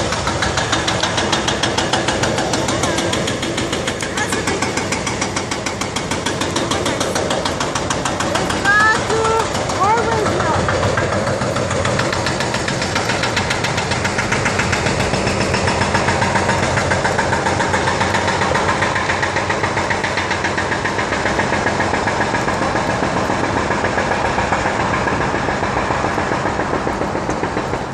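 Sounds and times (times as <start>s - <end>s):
fast even clicking: 0.0s - 27.9s
inline skate wheels rolling on asphalt: 0.0s - 27.9s.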